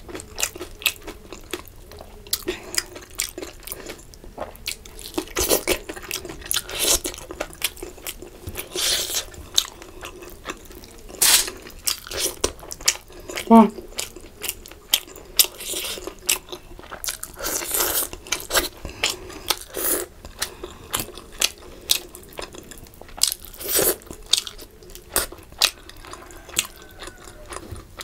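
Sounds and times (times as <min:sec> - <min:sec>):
chewing and crunching fish: 0:00.0 - 0:28.0.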